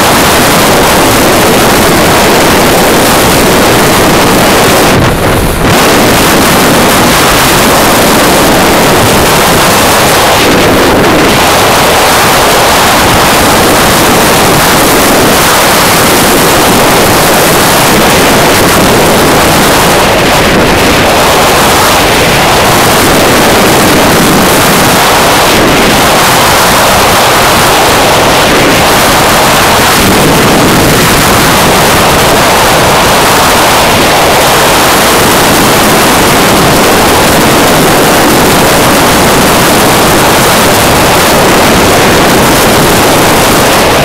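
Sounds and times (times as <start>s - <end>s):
motorcycle engine and road noise: 0.0s - 44.0s
wind rushing on microphone: 0.0s - 44.0s.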